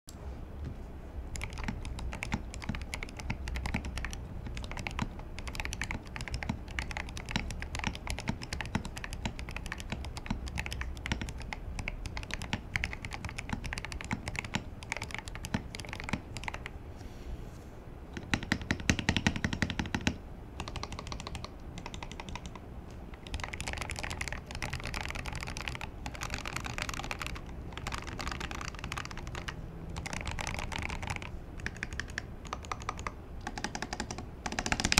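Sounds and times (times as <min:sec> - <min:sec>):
mechanical keyboard typing: 0:01.3 - 0:16.7, 0:18.2 - 0:22.6, 0:23.2 - 0:34.9.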